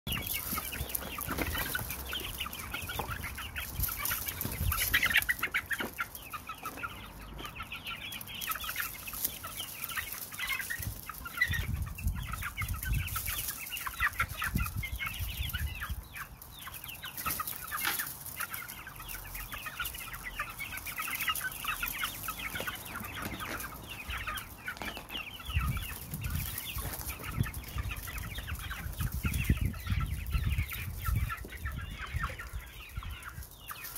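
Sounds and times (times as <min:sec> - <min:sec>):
chicks chirping and clucking: 0:00.1 - 0:33.9.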